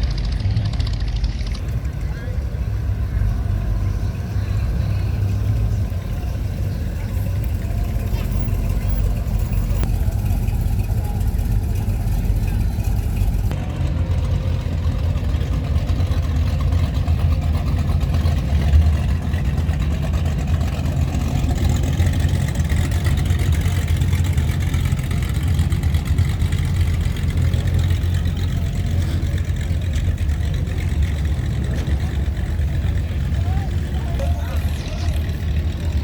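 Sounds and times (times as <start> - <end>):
car engines rumbling: 0.0 - 36.0.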